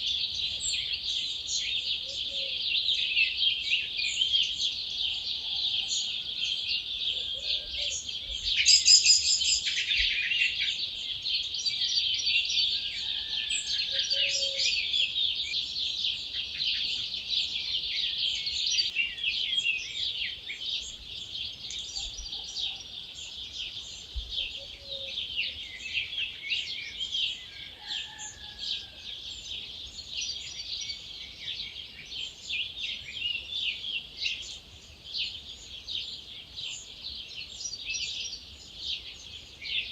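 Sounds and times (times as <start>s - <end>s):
wild birds singing: 0.0s - 39.9s.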